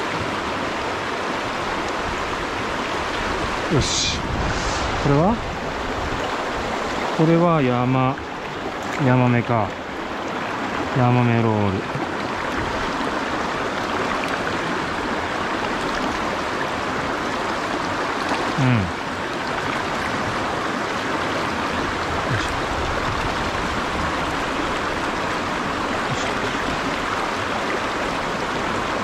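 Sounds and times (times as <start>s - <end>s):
stream rushing over rocks: 0.0s - 29.0s.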